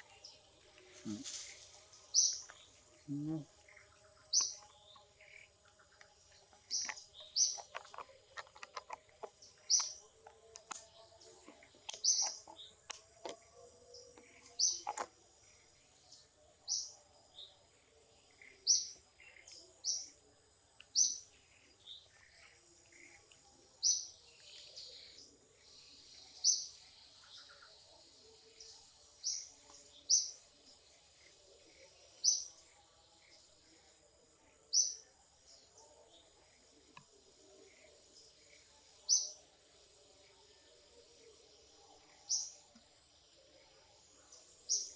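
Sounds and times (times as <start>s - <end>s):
bird chirping: 0.0s - 44.9s.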